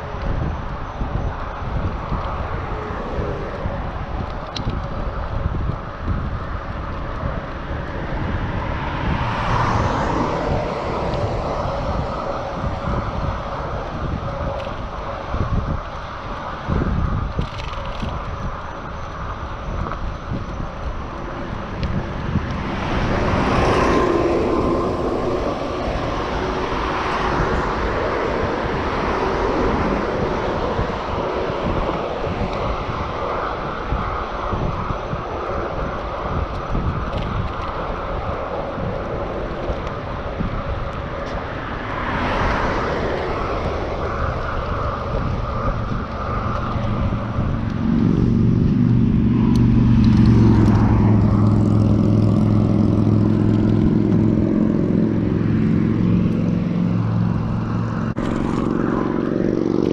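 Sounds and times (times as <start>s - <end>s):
low engine sound: 0.0s - 59.9s
motor traffic passing: 0.0s - 59.9s
wind and road noise: 0.0s - 59.9s.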